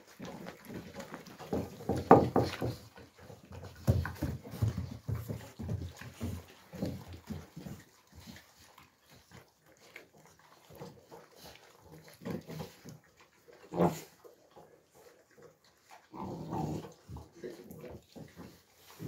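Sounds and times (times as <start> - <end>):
puppies eating from pan: 0.0 - 19.0.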